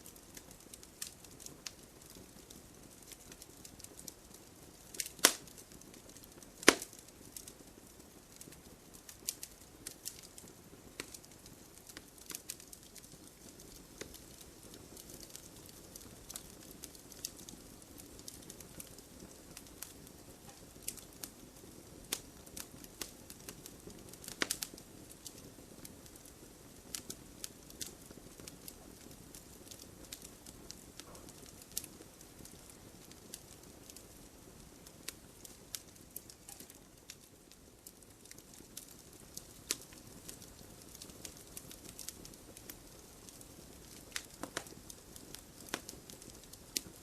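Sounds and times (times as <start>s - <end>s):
low hiss of flames: 0.0s - 47.0s
wood crackling and popping: 0.0s - 47.0s.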